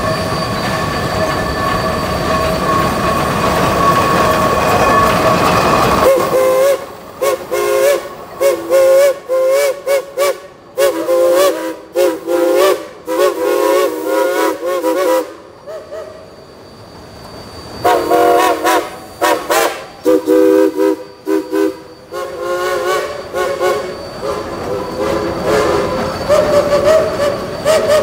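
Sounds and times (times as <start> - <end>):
steam locomotive whistles: 0.0 - 28.0.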